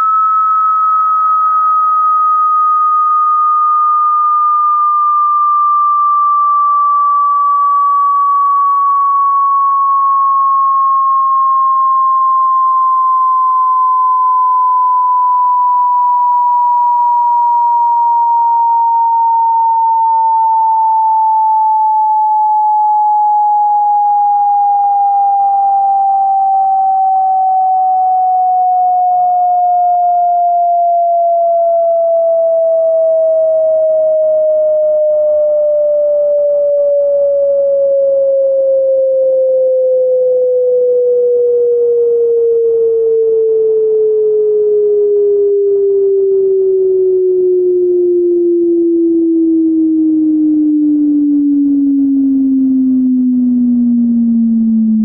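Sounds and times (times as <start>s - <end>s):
sine tone sweeping downward: 0.0s - 55.0s.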